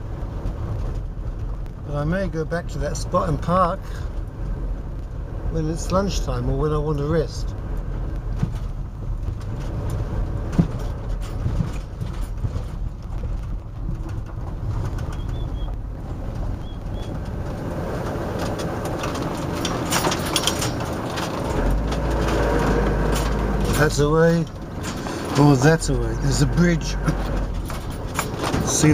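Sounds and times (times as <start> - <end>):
crackly tyre noise: 0.0 - 28.9
van engine and tyres: 0.0 - 28.9.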